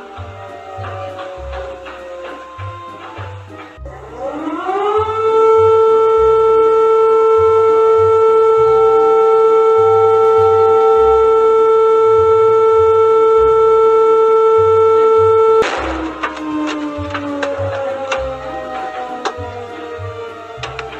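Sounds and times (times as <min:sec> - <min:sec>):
emergency siren steady tone: 0:00.0 - 0:20.9.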